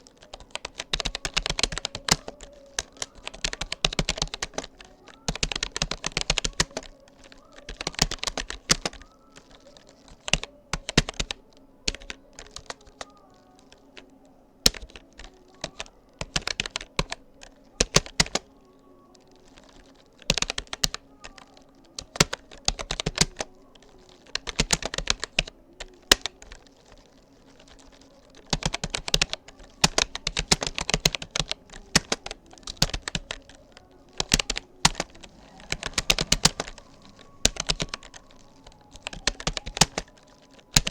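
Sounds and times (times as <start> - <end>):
typing on computer keyboard: 0.0 - 40.9.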